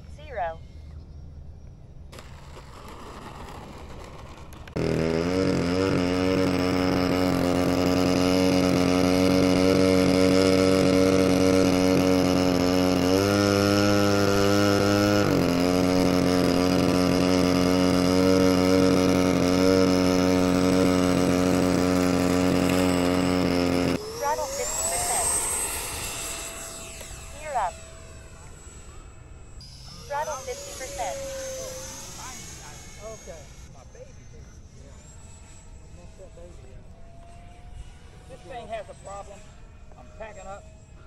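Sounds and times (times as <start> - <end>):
model plane engine running: 0.0 - 41.0.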